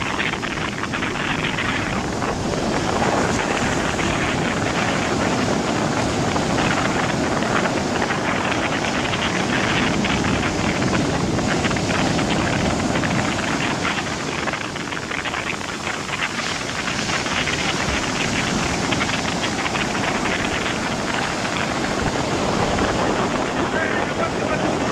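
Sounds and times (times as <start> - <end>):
heavy surf breaking: 0.0 - 24.9
storm wind across microphone: 0.0 - 24.9.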